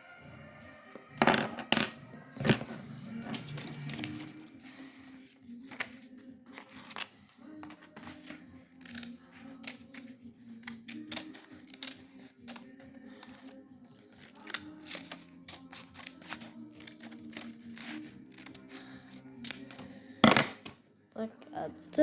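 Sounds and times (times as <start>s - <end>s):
paper and scissors clicks and rustles: 2.4s - 20.8s.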